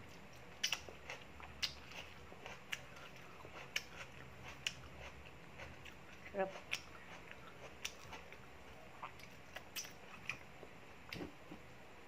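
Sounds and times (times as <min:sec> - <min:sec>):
person chewing: 0:00.0 - 0:10.5.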